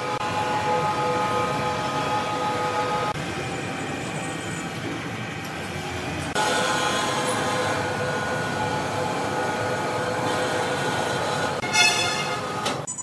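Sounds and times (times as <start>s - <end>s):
electric hoist running with motor whine: 0.0s - 12.9s.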